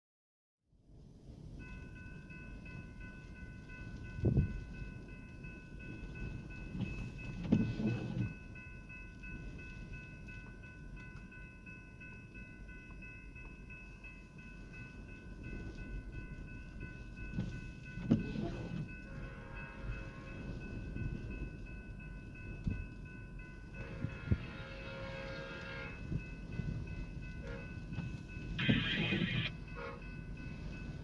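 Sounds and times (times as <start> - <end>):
train rumble: 0.8 - 31.0
crossing bell ringing: 1.4 - 31.0.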